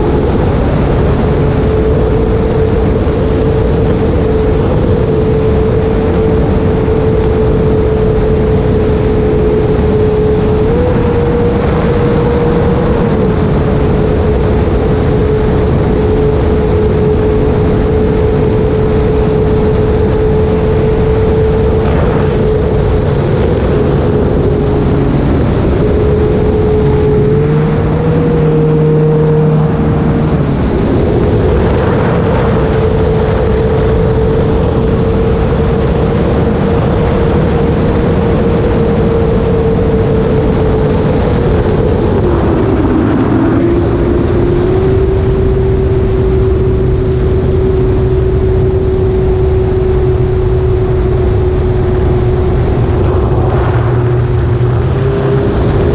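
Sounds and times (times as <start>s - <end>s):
model plane propeller drone: 0.0s - 55.9s
wind rush: 0.0s - 55.9s.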